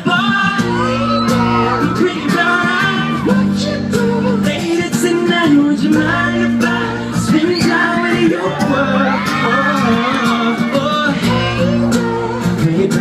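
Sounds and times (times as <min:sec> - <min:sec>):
guitar: 0:00.0 - 0:13.0
person singing: 0:00.0 - 0:13.0
pop backing track: 0:00.0 - 0:13.0.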